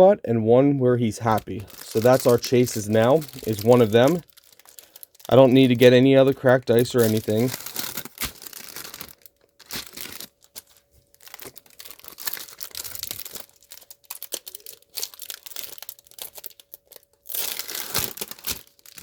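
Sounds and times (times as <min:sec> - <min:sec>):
plastic wrapper tearing and crinkling: 0:01.2 - 0:19.0.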